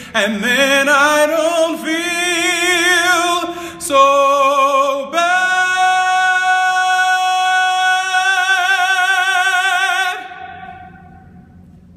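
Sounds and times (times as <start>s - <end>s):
echo in parking garage: 0.0s - 11.9s.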